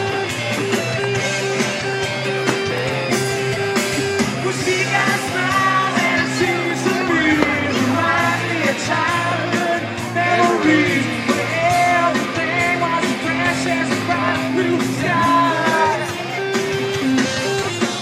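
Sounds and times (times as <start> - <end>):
rock song: 0.0 - 18.0.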